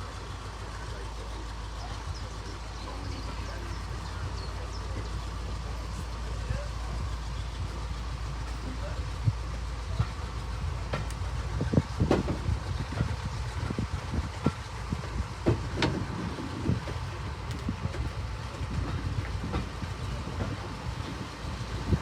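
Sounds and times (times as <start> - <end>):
train rumbling along rails: 0.0 - 22.0
wheels clicking over track: 0.0 - 22.0.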